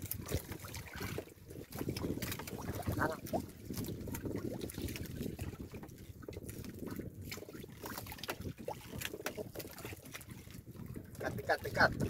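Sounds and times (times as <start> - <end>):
small splashes and knocks: 0.0 - 12.0
water lapping against boat hull: 0.0 - 12.0
wind rumble: 0.0 - 12.0.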